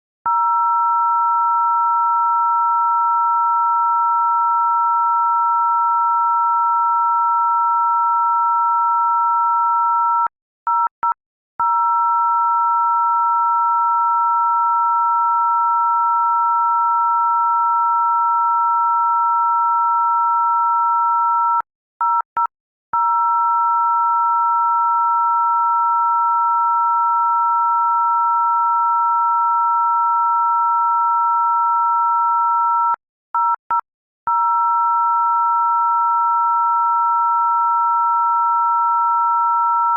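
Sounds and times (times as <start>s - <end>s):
two-tone electronic tone: 5.7s - 39.9s.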